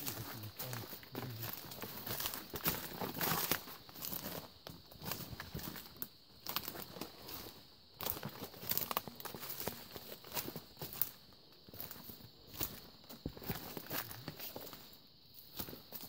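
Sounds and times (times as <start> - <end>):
footsteps crunching through dry leaves: 0.0 - 14.9.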